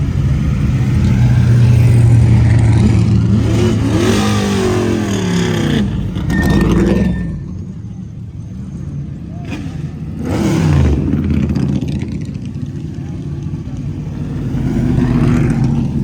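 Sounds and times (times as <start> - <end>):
car engine revving: 0.0 - 8.2, 9.3 - 16.0.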